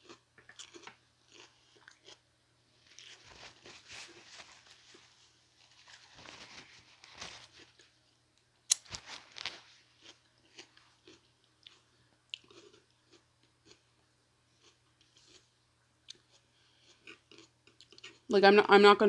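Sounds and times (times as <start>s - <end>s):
person chewing food: 0.0s - 6.2s, 8.7s - 18.3s.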